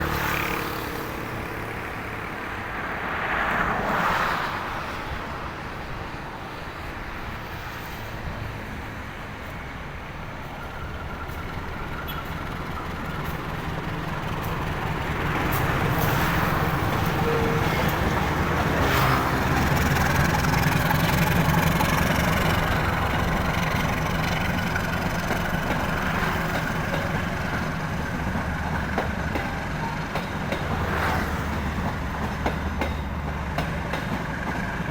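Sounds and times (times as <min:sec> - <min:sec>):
diesel locomotive engine rumbling: 0:00.0 - 0:34.9.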